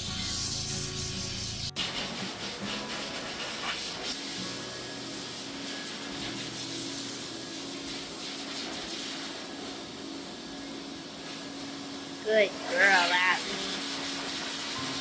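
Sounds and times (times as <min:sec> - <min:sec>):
water spraying from hose: 0:00.0 - 0:15.0.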